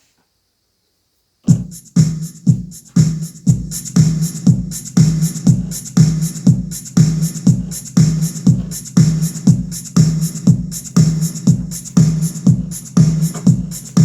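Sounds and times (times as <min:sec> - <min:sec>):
music with punchy drum beat: 0:01.5 - 0:14.0.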